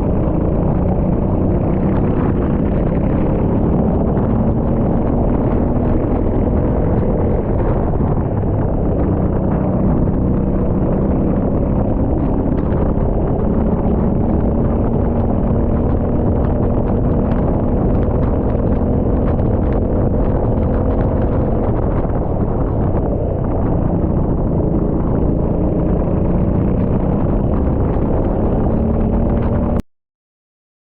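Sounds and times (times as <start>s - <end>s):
kart engine running: 0.0s - 29.8s
wind buffeting microphone: 0.0s - 29.8s.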